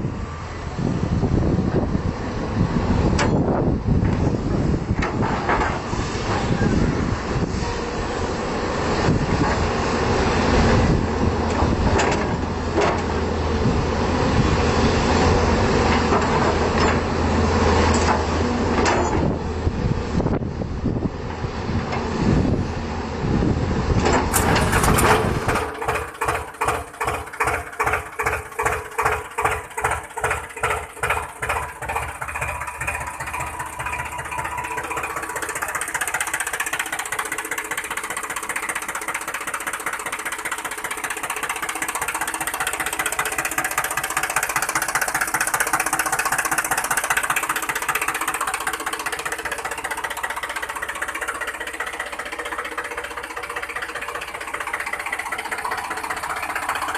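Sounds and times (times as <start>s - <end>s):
pulsing mechanical engine: 0.0s - 56.9s.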